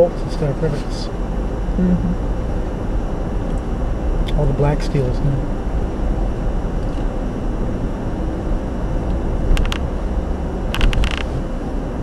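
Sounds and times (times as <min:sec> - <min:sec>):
car road rumble on steel bridge: 0:00.0 - 0:12.0.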